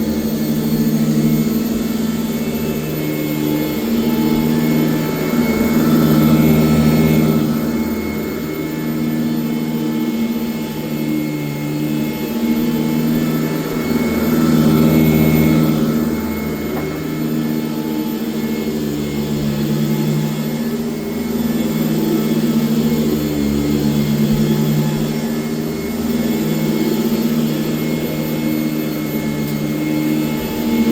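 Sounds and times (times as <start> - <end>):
vacuum cleaner on carpet: 0.0 - 30.9.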